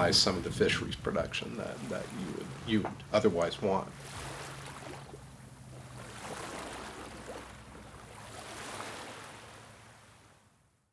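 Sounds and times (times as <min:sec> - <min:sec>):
water rushing: 0:00.0 - 0:10.2.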